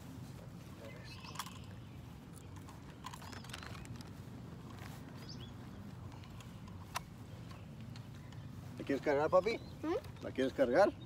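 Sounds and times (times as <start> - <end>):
handling clicks and rustles: 0.0 - 11.0.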